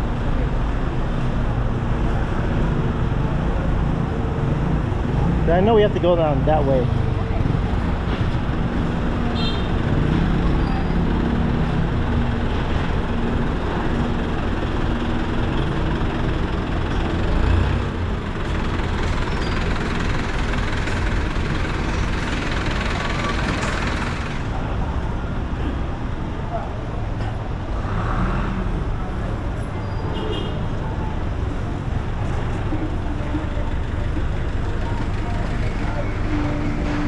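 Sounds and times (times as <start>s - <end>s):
vehicle engines running: 0.0s - 37.0s.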